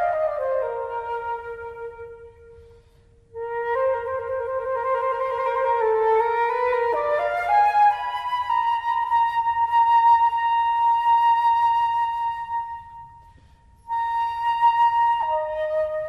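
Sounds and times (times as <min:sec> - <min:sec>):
flute holding long notes: 0:00.0 - 0:16.0.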